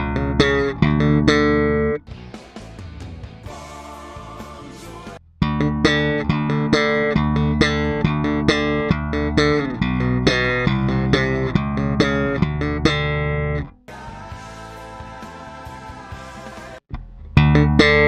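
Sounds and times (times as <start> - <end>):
slap bass guitar playing: 0.0 - 15.2, 16.9 - 18.0.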